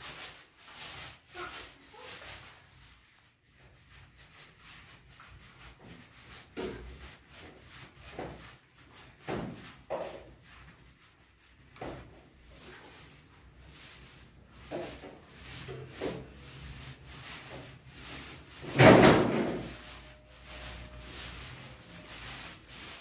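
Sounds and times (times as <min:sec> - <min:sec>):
paint roller rubbing on wall: 0:00.0 - 0:23.0.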